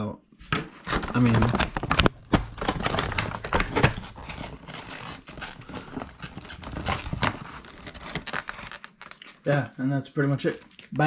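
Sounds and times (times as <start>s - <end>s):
plastic packaging crinkling: 0.9s - 11.0s.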